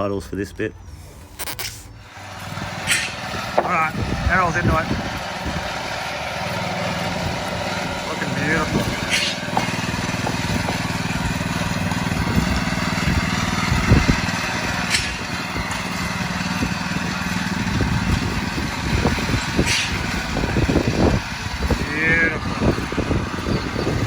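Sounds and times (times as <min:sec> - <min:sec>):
power trowel engine running: 0:01.0 - 0:24.0.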